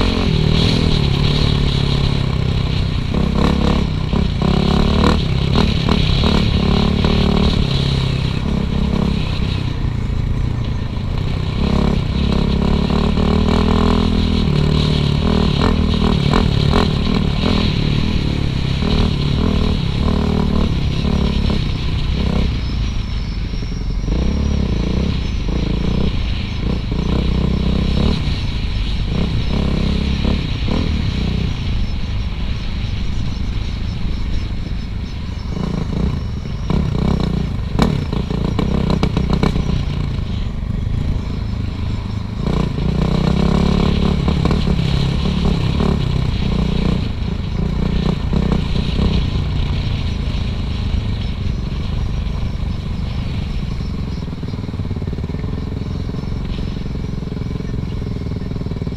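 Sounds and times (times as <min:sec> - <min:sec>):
dirt bike engine revving: 0:00.0 - 0:32.5, 0:34.6 - 0:58.9.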